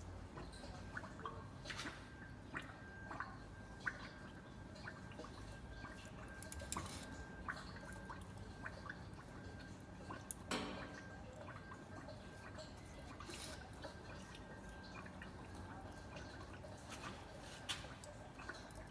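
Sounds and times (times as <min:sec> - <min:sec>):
oil trickling and dripping: 0:00.0 - 0:18.9.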